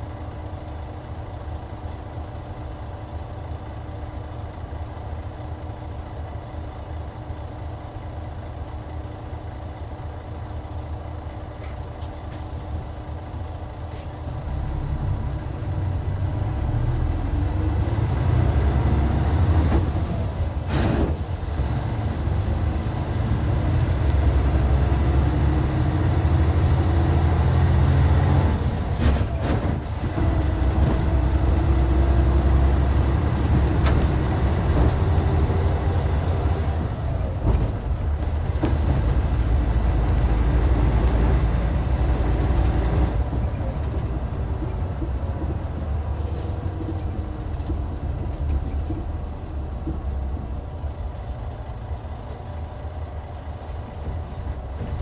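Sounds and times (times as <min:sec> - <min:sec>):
diesel coach engine running: 0:00.0 - 0:55.0.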